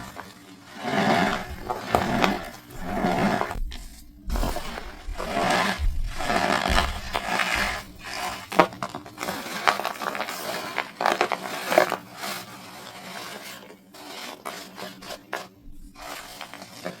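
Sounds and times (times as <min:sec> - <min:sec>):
cornstarch crunching and crackling: 0:00.0 - 0:17.0.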